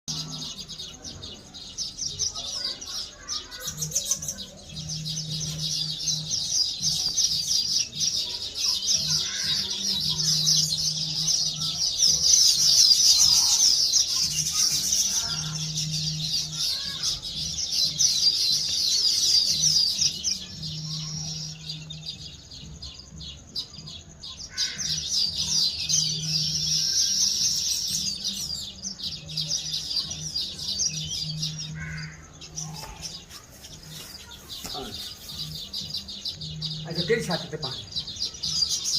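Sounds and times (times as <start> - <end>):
birds twittering in chorus: 0.0 - 38.9.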